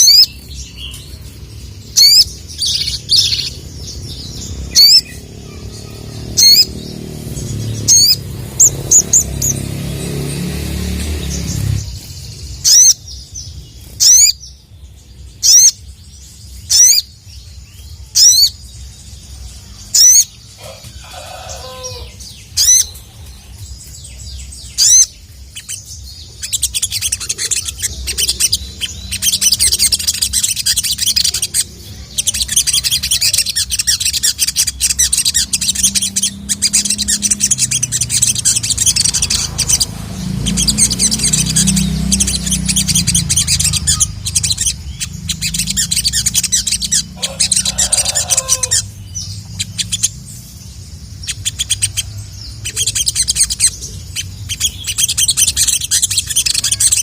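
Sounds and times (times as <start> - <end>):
sharp high bird calls: 0.0 - 14.4, 15.4 - 15.8, 19.8 - 23.5, 24.1 - 57.0
fast twittering bird song: 0.0 - 57.0.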